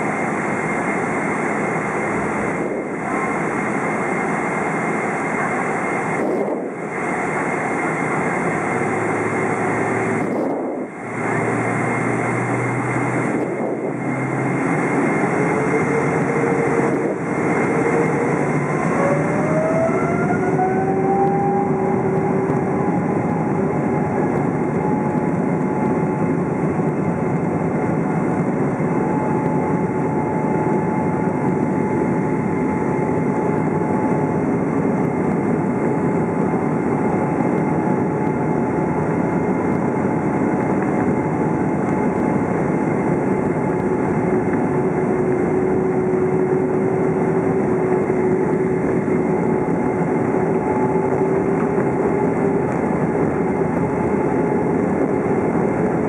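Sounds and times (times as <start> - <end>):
jet engines from inside cabin: 0.0 - 56.0.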